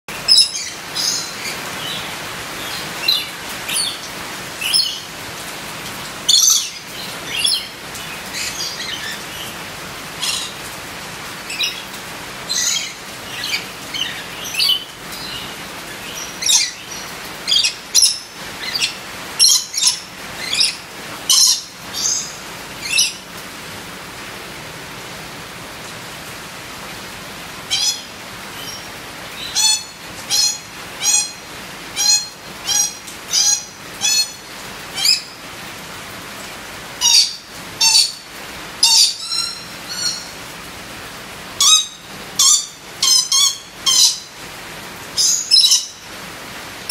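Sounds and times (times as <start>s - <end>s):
rain hiss: 0.1s - 46.9s.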